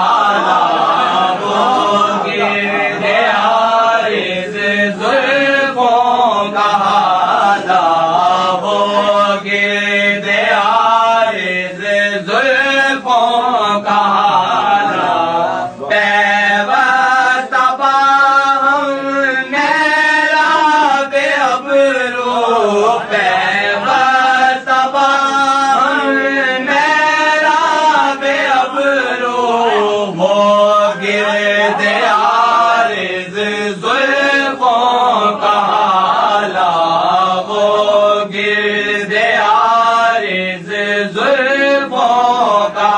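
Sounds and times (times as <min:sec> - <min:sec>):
person chanting verse: 0:00.0 - 0:42.9.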